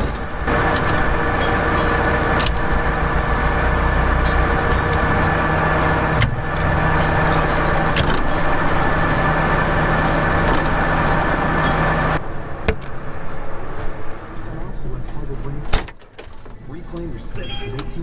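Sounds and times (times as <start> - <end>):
engine humming and whining: 0.0 - 15.5.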